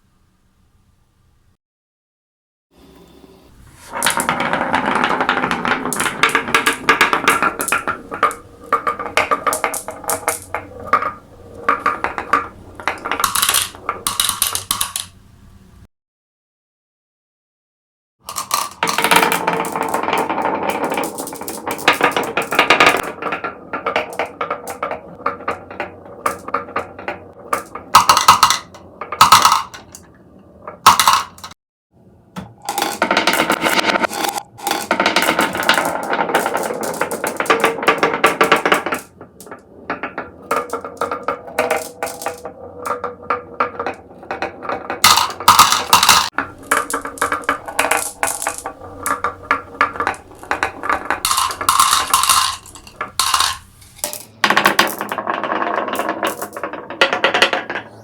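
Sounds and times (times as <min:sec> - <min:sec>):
marbles clattering down a run: 0:03.9 - 0:15.2, 0:18.3 - 0:30.0, 0:30.9 - 0:31.5, 0:32.7 - 0:58.0.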